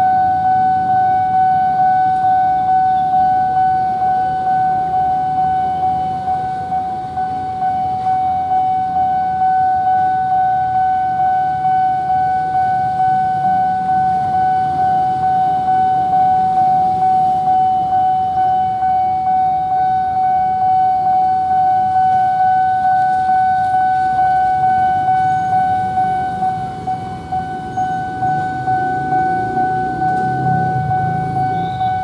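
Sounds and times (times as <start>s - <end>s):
level crossing alarm pulsing: 0.0s - 32.0s
low engine rumble: 0.0s - 32.0s.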